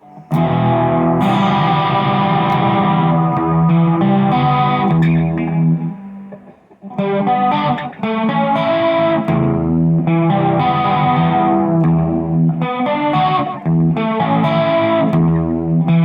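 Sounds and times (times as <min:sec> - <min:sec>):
distorted electric guitar chords: 0:00.0 - 0:16.0.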